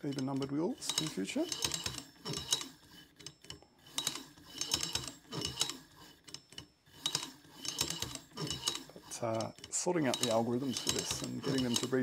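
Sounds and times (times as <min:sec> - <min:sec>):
lock mechanism clicking: 0:00.0 - 0:12.0
stepper motor whirring: 0:00.0 - 0:12.0.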